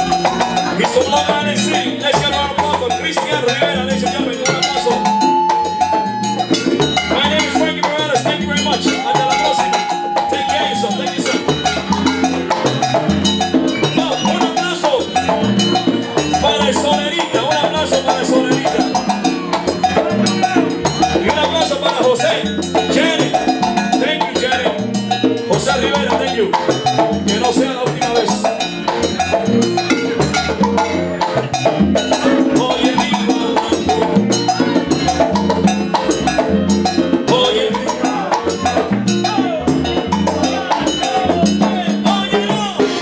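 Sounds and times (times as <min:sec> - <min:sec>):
bass line: 0:00.0 - 0:43.0
latin hand percussion: 0:00.0 - 0:43.0.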